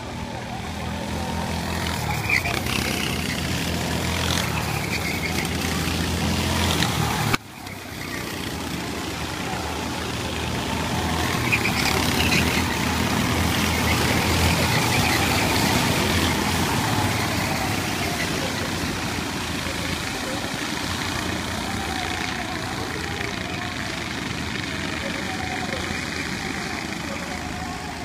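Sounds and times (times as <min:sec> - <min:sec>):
kart engines racing: 0:00.0 - 0:28.0.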